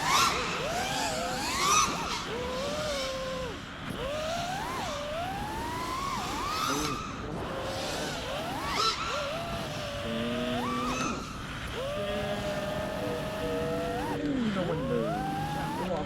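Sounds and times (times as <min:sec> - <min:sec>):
drone electric motors whining: 0:00.0 - 0:16.0.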